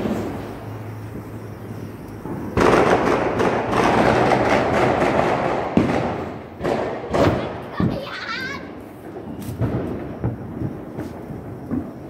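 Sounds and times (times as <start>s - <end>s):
firework crackling hiss of sparks: 0.0s - 12.0s.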